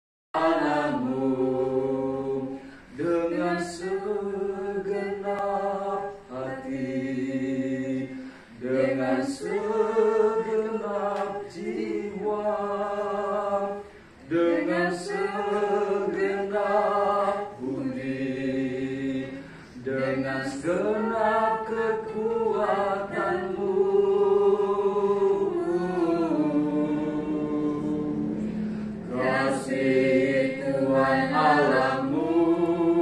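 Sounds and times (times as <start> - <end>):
group singing a hymn unaccompanied: 0.4 - 33.0.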